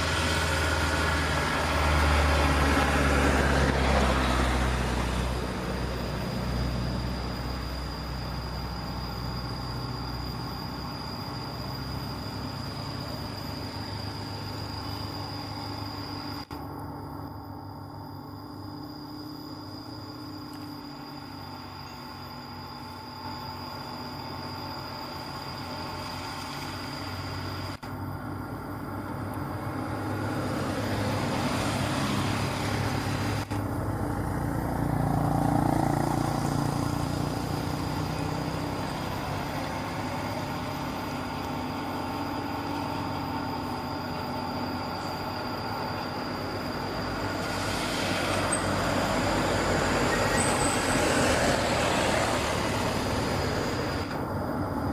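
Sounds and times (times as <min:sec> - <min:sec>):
model excavator mechanical whine: 0:00.0 - 0:54.9.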